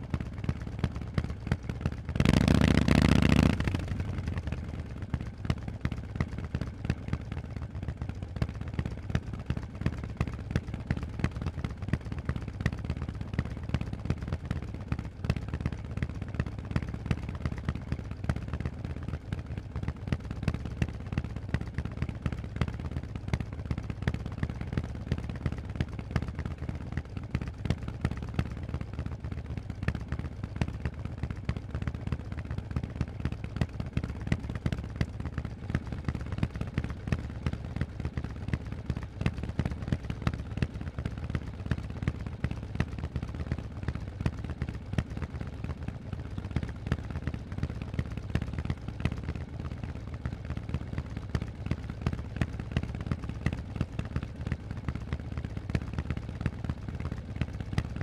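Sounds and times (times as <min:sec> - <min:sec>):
motorcycle engine exhaust pulses: 0:00.0 - 0:58.0.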